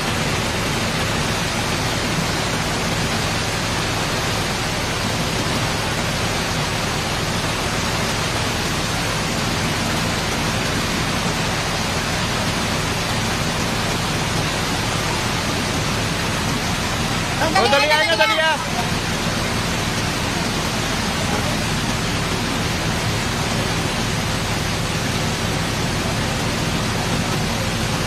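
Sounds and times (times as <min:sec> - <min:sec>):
heavy rain hissing: 0:00.0 - 0:28.0
rushing floodwater: 0:00.0 - 0:28.0.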